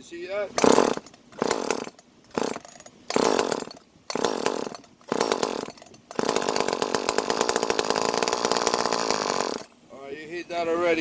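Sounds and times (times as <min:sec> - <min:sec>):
chainsaw engine sputtering and running: 0:00.6 - 0:09.7.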